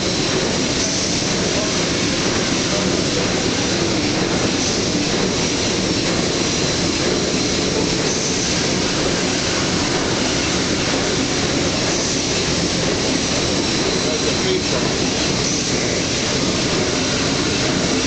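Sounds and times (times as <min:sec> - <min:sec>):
engine room machinery running: 0:00.0 - 0:18.0.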